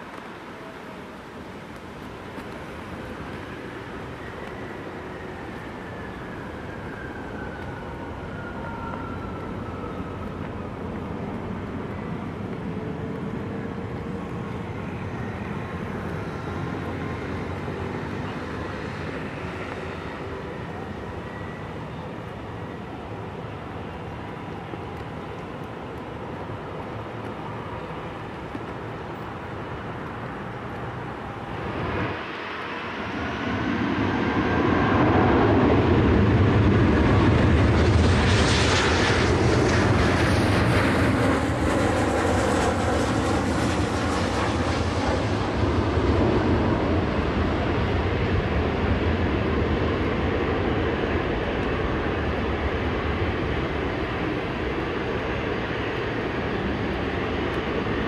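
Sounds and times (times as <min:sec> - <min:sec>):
jet engine whine: 0:00.0 - 0:58.0
jet roar on runway: 0:00.0 - 0:58.0
distant jet rumble: 0:01.3 - 0:58.0.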